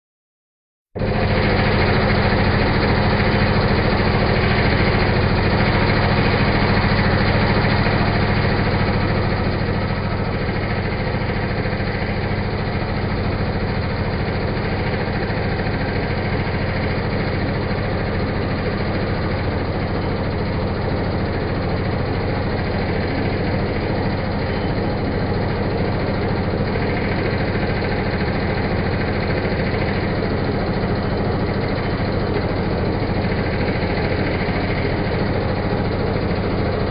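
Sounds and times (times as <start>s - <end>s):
drill press humming: 1.0s - 36.9s.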